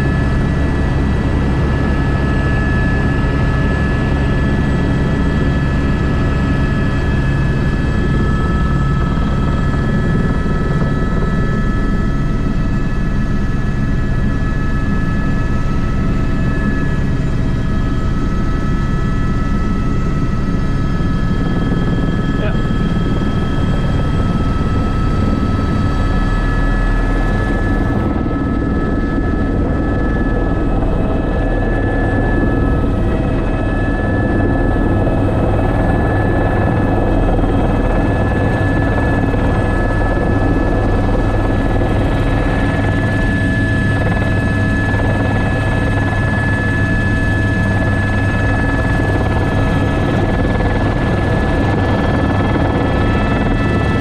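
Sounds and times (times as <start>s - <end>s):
helicopter rotor drone: 0.0s - 54.0s
high turbine whine: 0.0s - 54.0s.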